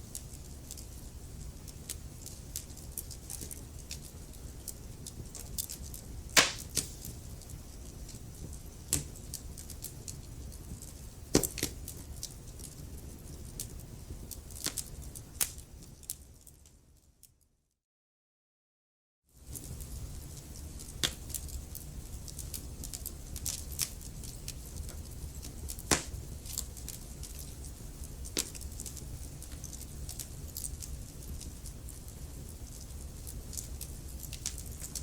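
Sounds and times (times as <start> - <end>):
wood fire crackling: 0.0 - 16.9, 19.4 - 35.0.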